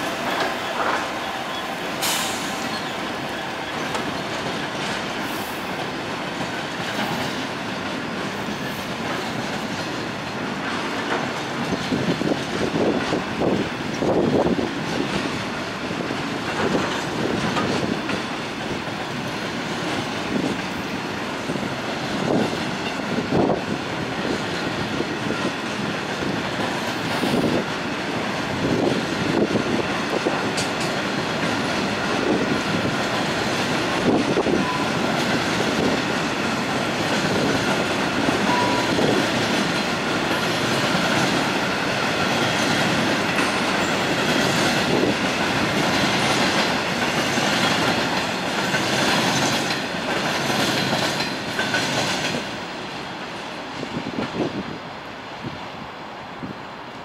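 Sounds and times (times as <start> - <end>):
train wheels running on rails: 0.0 - 57.0.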